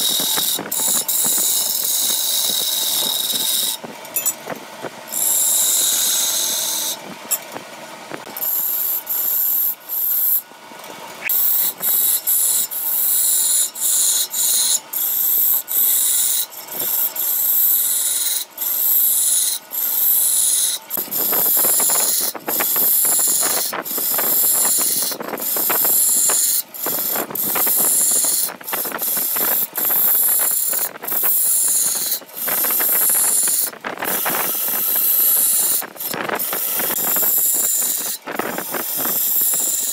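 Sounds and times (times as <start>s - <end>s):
lathe tool scraping wood: 0.0s - 3.9s, 5.1s - 7.0s, 11.2s - 39.9s.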